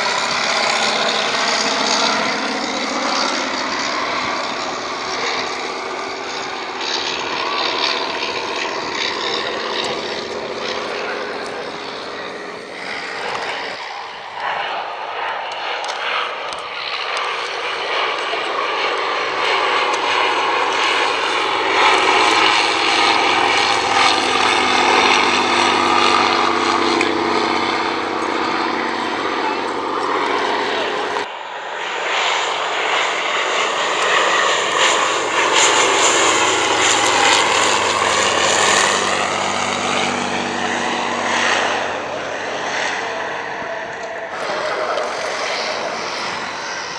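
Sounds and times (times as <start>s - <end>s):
propeller aircraft engine: 0.0s - 46.9s.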